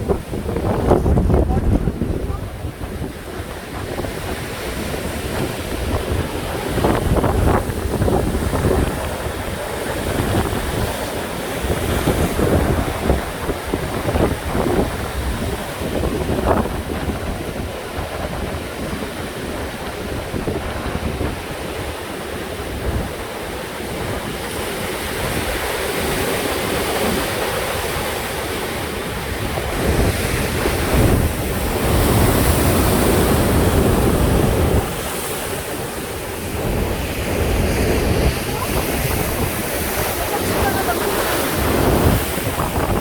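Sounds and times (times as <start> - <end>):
waves crashing on shore: 0.0 - 43.0
wind buffeting microphone: 0.0 - 43.0.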